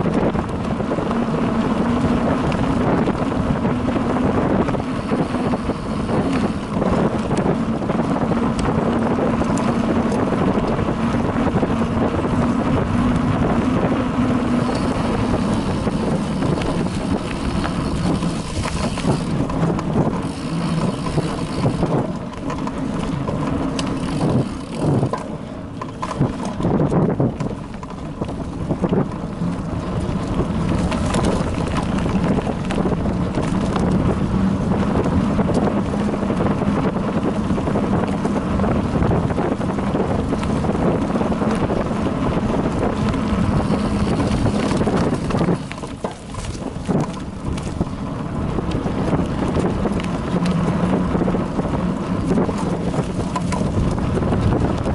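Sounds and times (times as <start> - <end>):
bicycle tyre rumble and rattling: 0.0 - 54.9
wind noise on microphone: 0.0 - 54.9.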